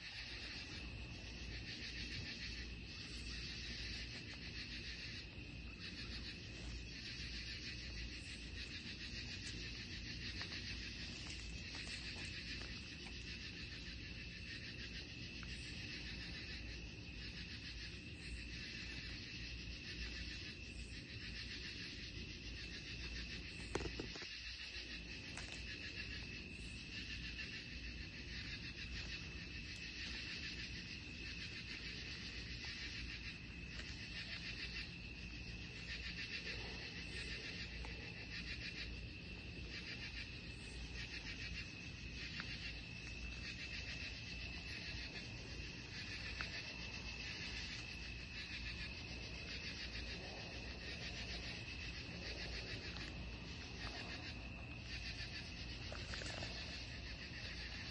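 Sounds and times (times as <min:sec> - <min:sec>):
high cricket trill: 0:00.0 - 0:57.9
pulsing insect call: 0:00.0 - 0:57.9.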